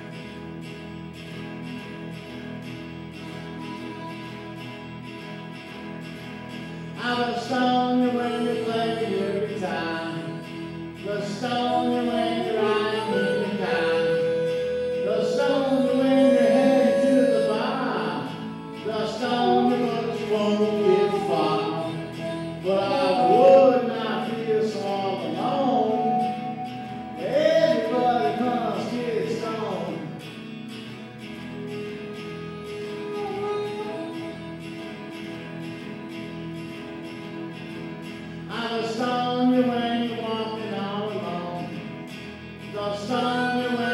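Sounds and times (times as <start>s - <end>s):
electric guitar strummed chords: 0.0s - 43.9s
wavering electric guitar lead melody: 0.0s - 43.9s.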